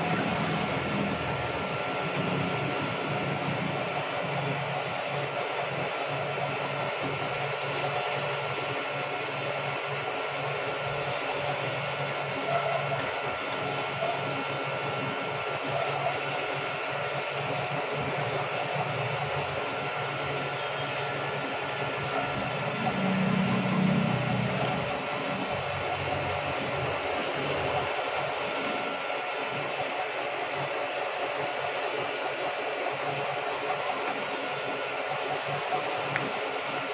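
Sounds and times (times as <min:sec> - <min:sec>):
milling machine cutting steel: 0:00.0 - 0:08.5, 0:12.3 - 0:36.9.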